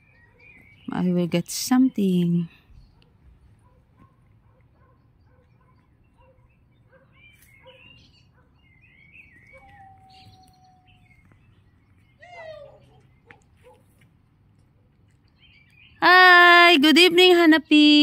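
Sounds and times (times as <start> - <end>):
birds chirping and calling: 0.0 - 14.0, 15.0 - 18.0.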